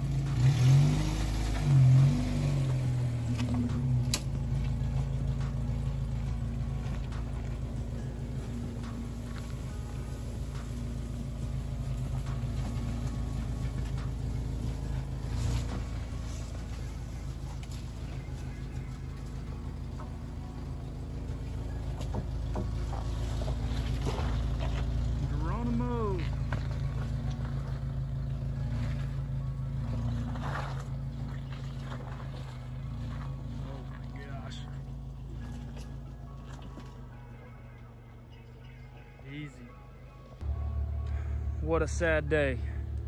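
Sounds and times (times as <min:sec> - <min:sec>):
vehicle engine running low: 0:00.0 - 0:43.0.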